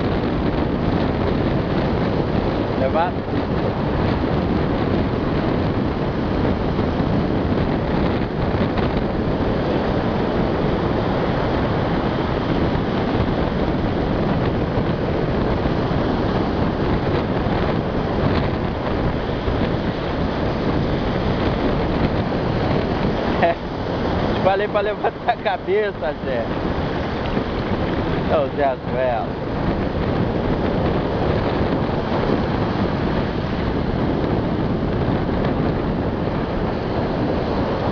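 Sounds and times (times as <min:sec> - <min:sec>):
surf washing on sand: 0:00.0 - 0:37.9
wind rumbling on microphone: 0:00.0 - 0:37.9.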